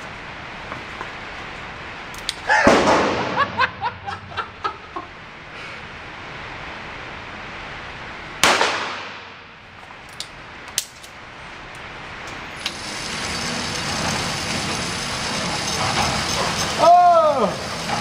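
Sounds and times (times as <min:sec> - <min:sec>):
steady noise: 0:00.0 - 0:18.0.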